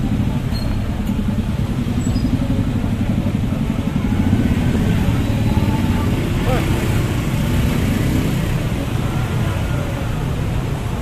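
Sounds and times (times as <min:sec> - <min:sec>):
street traffic engine rumble: 0:00.0 - 0:11.0.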